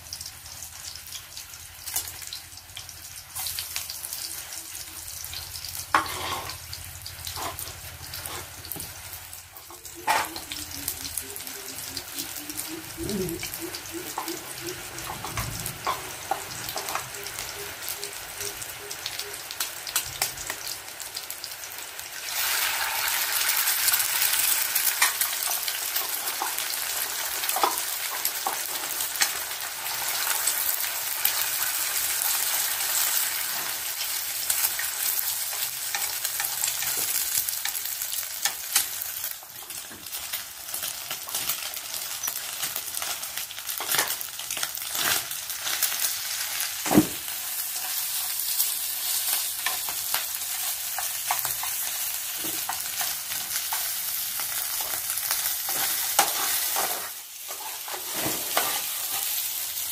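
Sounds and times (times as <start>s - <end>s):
food sizzling in oil: 0.0s - 59.9s.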